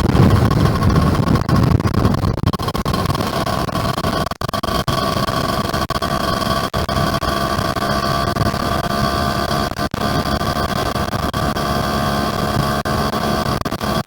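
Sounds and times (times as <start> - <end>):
two-stroke motorcycle engine running: 0.0 - 14.0
wind and road noise: 0.0 - 14.0.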